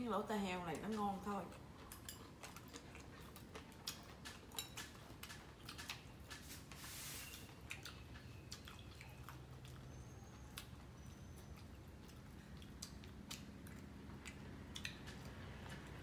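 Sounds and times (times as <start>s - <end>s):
chewing: 0.7s - 16.0s.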